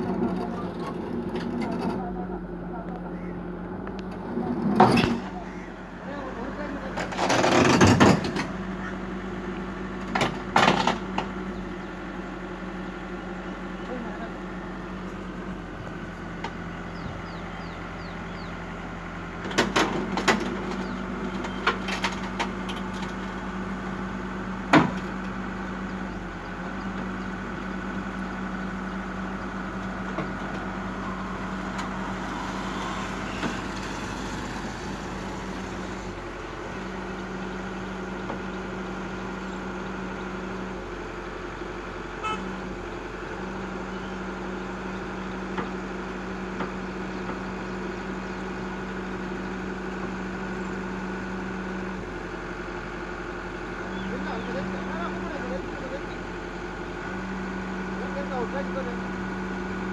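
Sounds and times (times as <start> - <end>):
excavator diesel engine hum: 0.0 - 59.9.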